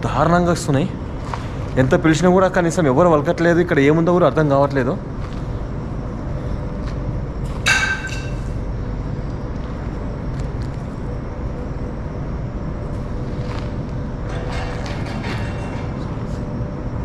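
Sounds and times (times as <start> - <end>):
faint steady hum: 0.0 - 17.0
steady low rumble: 0.0 - 17.0.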